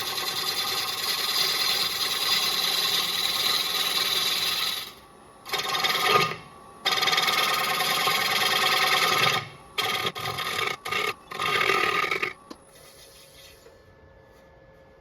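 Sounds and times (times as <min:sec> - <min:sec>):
lathe motor hum: 0:00.0 - 0:12.6
lathe tool scraping wood: 0:00.0 - 0:13.6.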